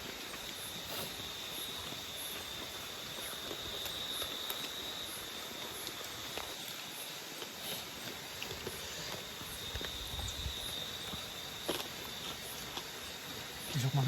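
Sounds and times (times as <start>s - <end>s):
constant hiss: 0.0s - 14.0s
insects droning: 0.0s - 14.0s.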